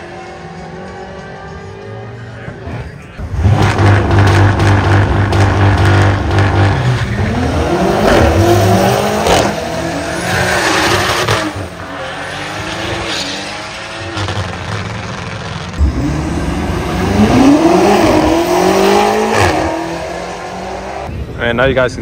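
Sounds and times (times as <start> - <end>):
car engines revving with upshifts: 0.0 - 21.1.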